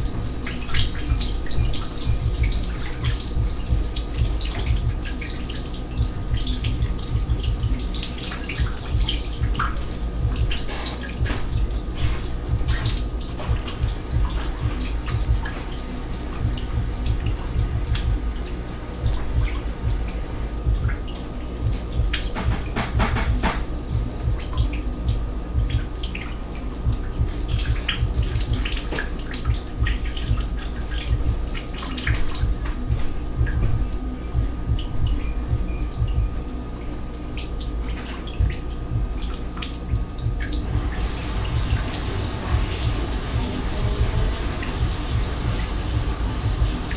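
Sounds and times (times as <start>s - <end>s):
water running into sink: 0.0s - 36.2s, 36.9s - 46.9s
water drips: 0.0s - 46.9s.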